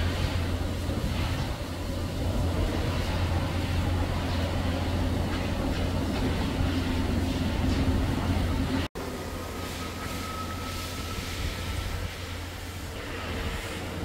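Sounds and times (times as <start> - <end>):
low rumble of distant vehicles: 0.0 - 14.0.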